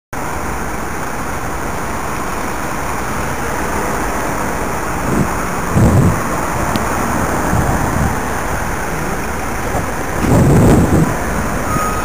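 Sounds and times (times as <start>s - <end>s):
car and bus engines running: 0.1s - 12.0s
tyres rolling slowly: 0.2s - 12.0s.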